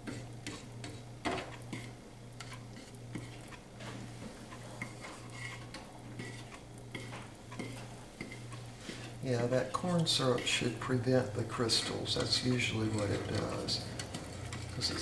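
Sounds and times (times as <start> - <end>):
spoon stirring boiling syrup: 0.0 - 15.0.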